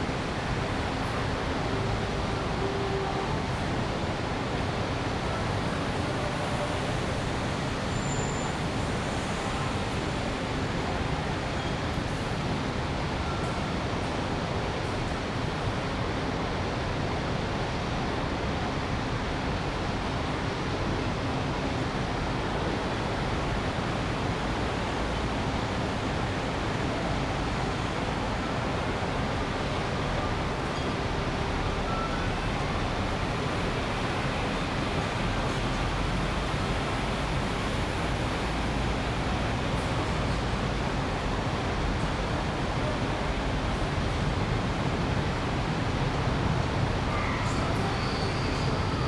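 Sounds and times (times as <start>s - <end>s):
city ambience: 0.0s - 49.0s
urban traffic hum: 0.0s - 49.0s.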